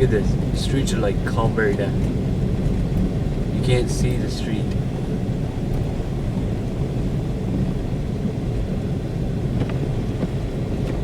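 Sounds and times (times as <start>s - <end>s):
car driving through slushy snow: 0.0s - 11.0s.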